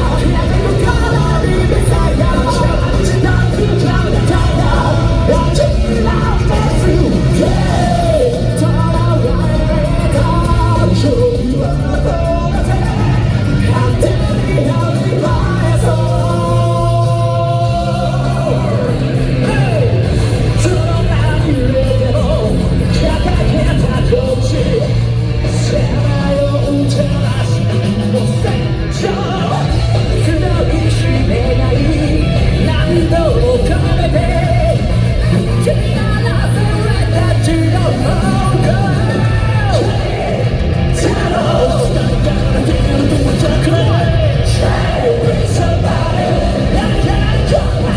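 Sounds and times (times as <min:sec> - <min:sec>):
lead vocals singing: 0:00.0 - 0:47.9
live rock band playing: 0:00.0 - 0:47.9.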